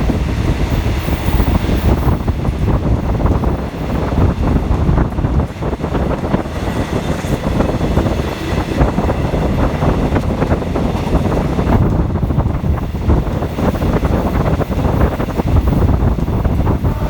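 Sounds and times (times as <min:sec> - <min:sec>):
train rumbling and rattling: 0:00.0 - 0:17.0
wind buffeting microphone: 0:00.0 - 0:17.0.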